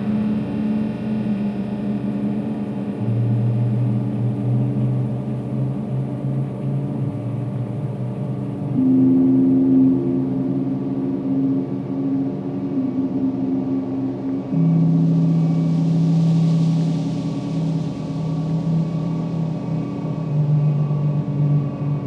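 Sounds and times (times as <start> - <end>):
deep drone tone: 0.0 - 22.0
higher drone tone: 0.0 - 22.0.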